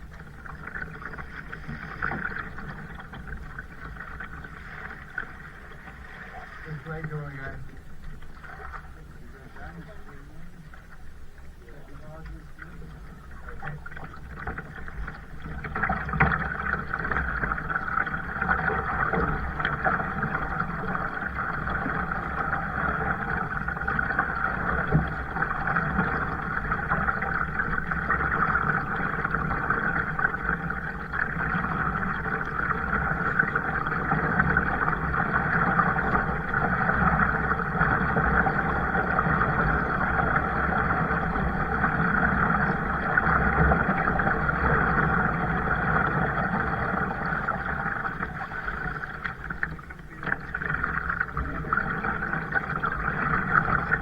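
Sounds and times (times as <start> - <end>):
kayak rushing through water: 0.0 - 54.0.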